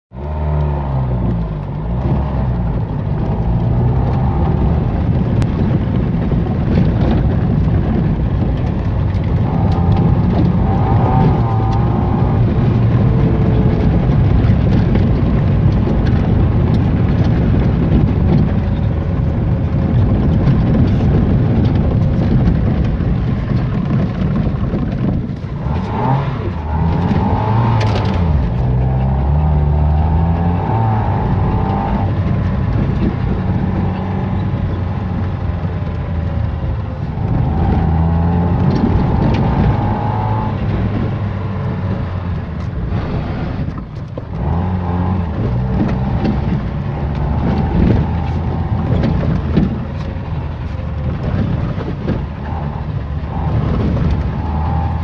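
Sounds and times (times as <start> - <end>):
car engine running hard: 0.0 - 55.0
gravel crackling under tyres: 0.1 - 55.0.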